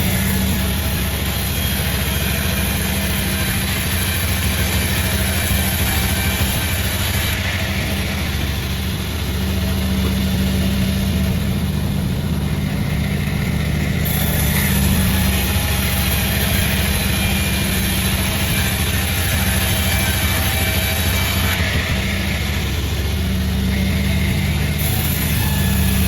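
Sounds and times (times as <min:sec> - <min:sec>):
engine low hum: 0:00.0 - 0:26.0
saw cutting: 0:00.0 - 0:26.0.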